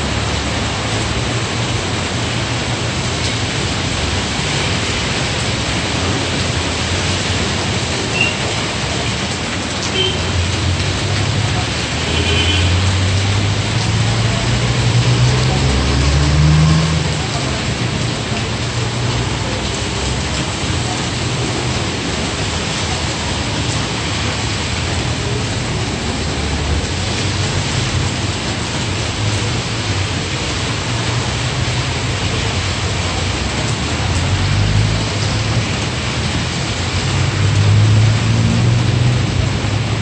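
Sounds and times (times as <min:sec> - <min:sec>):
rain on a wet street: 0:00.0 - 0:40.0.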